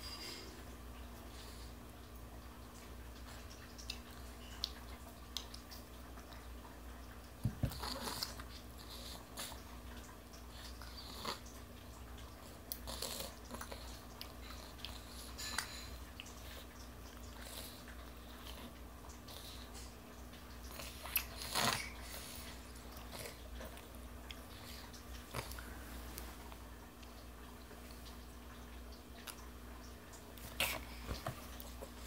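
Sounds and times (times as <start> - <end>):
low room hum: 0.0 - 32.0
toddler chewing food: 0.0 - 32.0.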